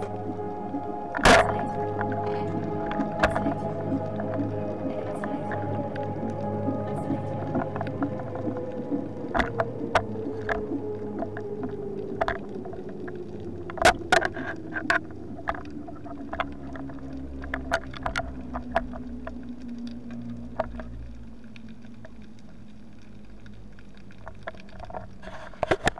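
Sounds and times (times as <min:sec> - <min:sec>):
diving gear clicks and knocks: 0:00.0 - 0:04.5, 0:06.2 - 0:25.9
underwater motorboat engine whine: 0:00.0 - 0:25.2.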